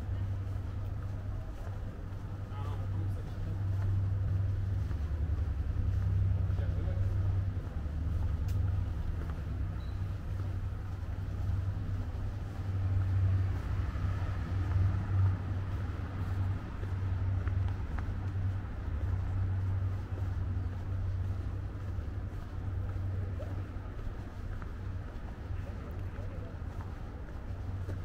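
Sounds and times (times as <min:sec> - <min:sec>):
city street low rumble: 0:00.0 - 0:28.0.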